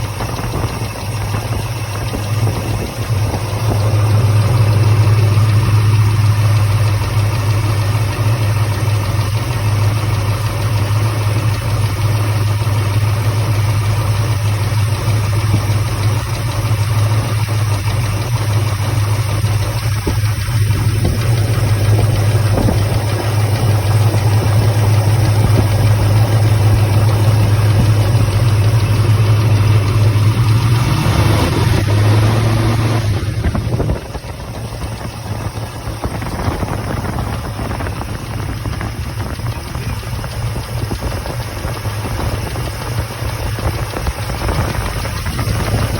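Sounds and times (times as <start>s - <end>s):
engine idling with misfire: 0.0s - 45.9s
engine lifter tick: 0.0s - 45.9s.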